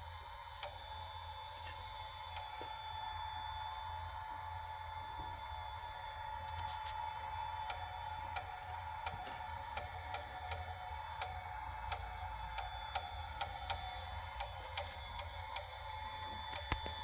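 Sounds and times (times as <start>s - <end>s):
sous-vide cooker humming: 0.0s - 17.0s.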